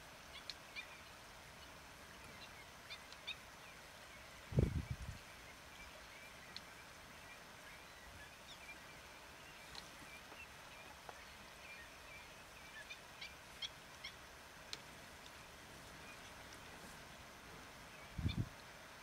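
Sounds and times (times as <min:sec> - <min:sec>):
birds chirping softly: 0:00.0 - 0:19.0.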